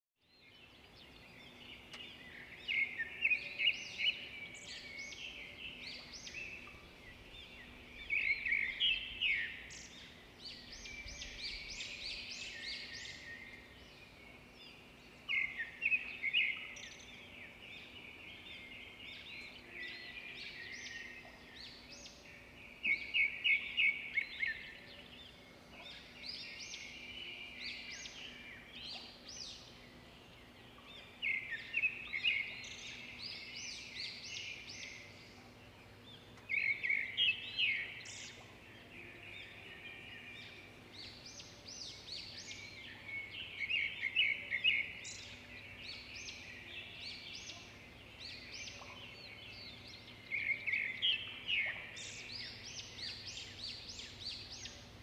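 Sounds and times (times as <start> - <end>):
small birds chirping: 0.2 - 55.0
faint steady hum: 0.5 - 55.0.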